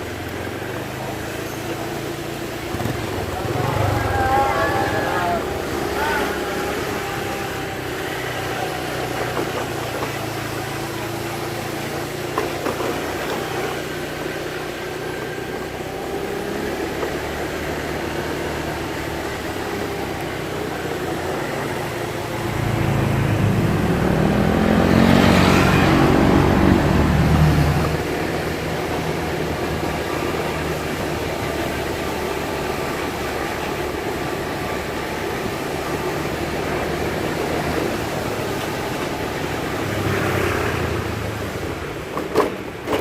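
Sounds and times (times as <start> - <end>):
vehicle engine running: 0.0 - 42.1.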